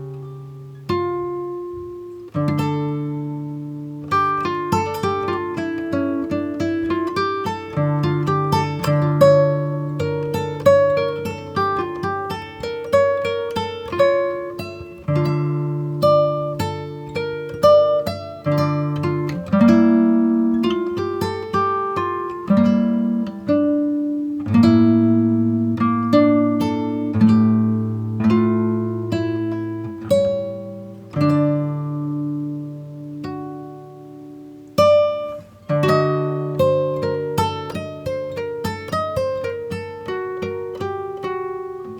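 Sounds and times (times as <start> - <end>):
plucked acoustic guitar: 0.0 - 41.9.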